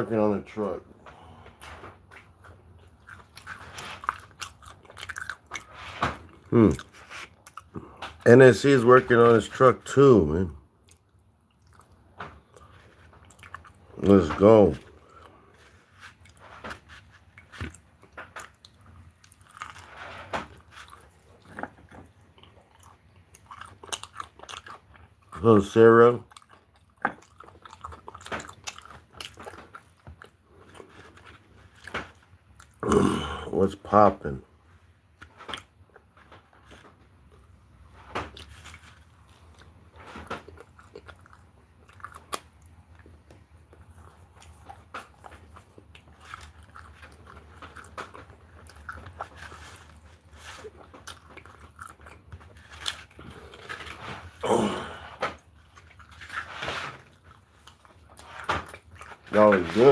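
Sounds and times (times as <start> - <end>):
person chewing: 1.0 - 8.3, 10.8 - 33.6, 35.0 - 59.9.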